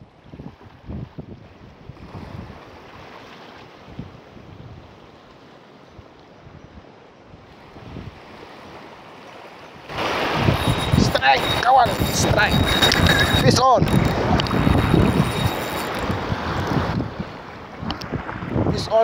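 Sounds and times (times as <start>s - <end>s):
wind buffeting microphone: 0.0s - 3.2s, 3.8s - 5.1s, 6.0s - 8.9s, 9.8s - 19.0s
moving water: 0.0s - 19.0s.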